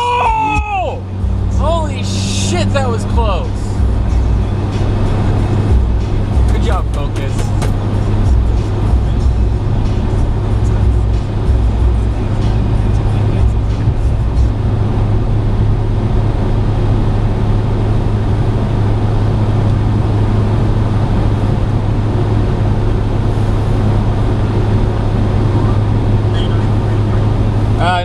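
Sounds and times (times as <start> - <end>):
car engine drone: 0.0 - 28.0
road noise: 0.0 - 28.0.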